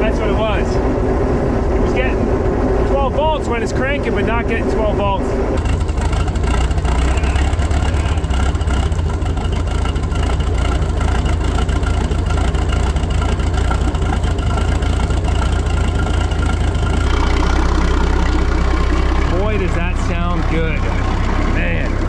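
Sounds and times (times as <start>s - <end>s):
boat engine idling: 0.0s - 22.0s.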